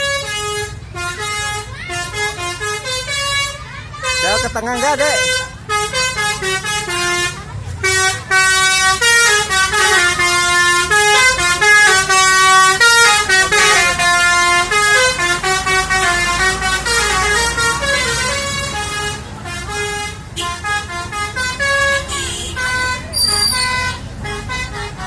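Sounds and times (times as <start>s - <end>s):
multi-tone bus horn melody: 0.0s - 25.0s.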